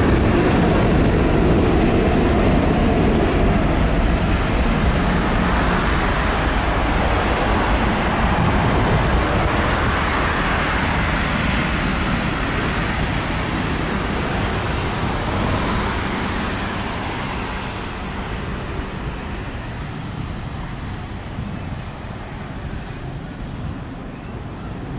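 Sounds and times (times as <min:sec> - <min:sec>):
jet plane taking off: 0:00.0 - 0:24.9.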